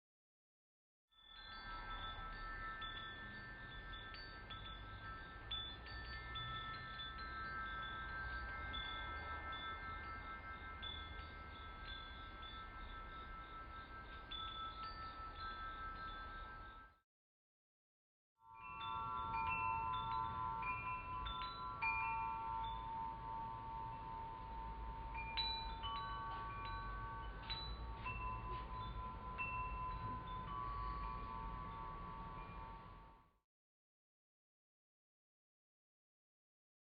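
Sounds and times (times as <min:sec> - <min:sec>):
wind chimes ringing: 0:01.1 - 0:17.0, 0:18.4 - 0:33.3.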